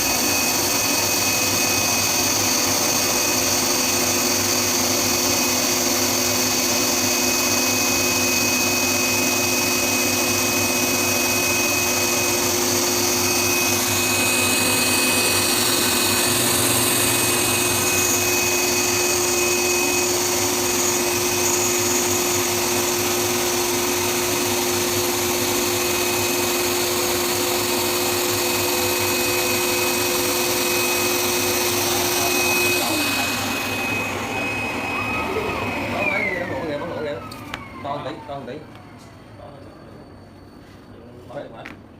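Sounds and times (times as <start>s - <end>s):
cutting machine running: 0.0s - 39.6s.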